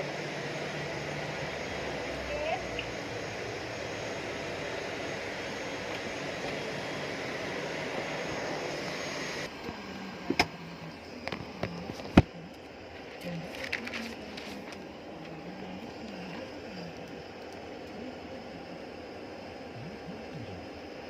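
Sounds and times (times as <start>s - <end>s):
faint high whine: 0.0s - 21.0s
jet aircraft engine running: 0.0s - 21.0s.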